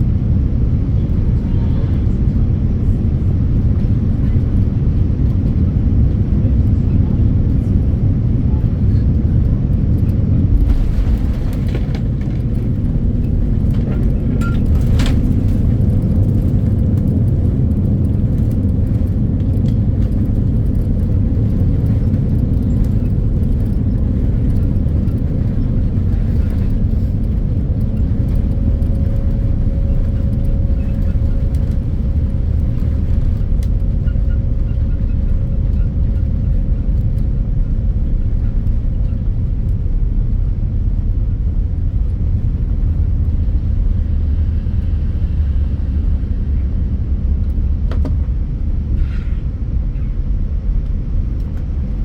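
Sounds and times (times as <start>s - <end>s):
airplane cabin rumble: 0.0s - 52.0s.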